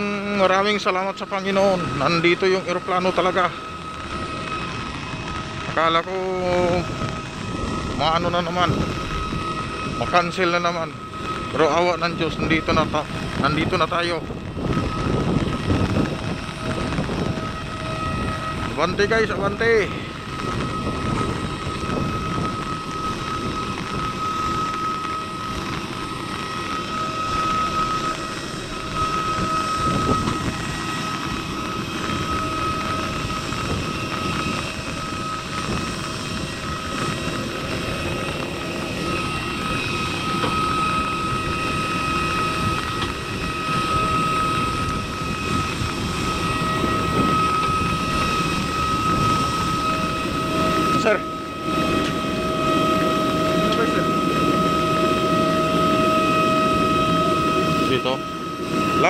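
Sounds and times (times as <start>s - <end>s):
jet turbine whine: 0.0s - 59.0s
low fluctuating rumble: 0.0s - 59.0s.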